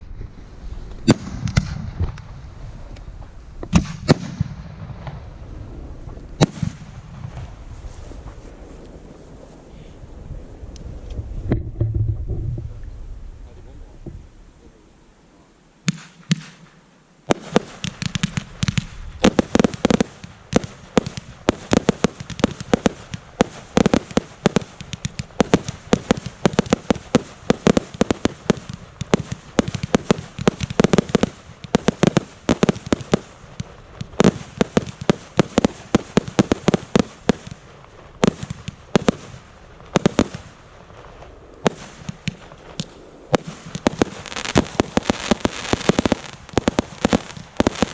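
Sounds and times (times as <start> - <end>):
fireworks bangs: 0.0 - 13.1, 15.8 - 47.9.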